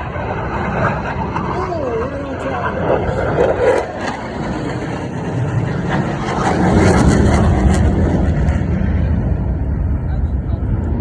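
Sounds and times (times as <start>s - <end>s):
jet aircraft flying past: 0.0s - 11.0s.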